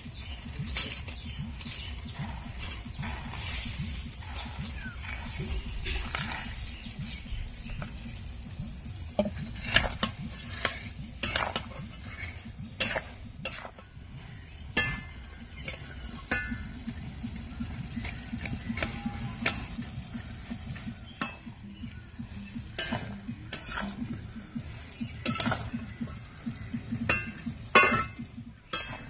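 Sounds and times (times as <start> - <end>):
spoon scraping cooking pan: 0.0 - 29.0.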